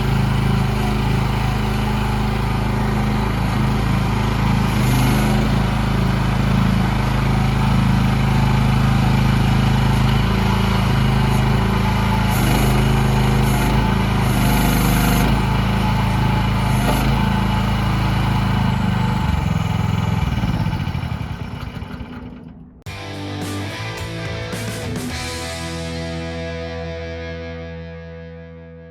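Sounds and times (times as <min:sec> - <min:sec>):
diesel excavator engine running: 0:00.0 - 0:27.0.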